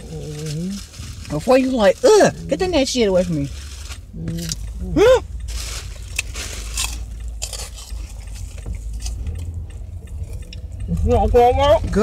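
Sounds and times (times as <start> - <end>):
crunchy snacks being chewed: 0.0 - 10.6
car engine rumble inside cabin: 0.0 - 12.0.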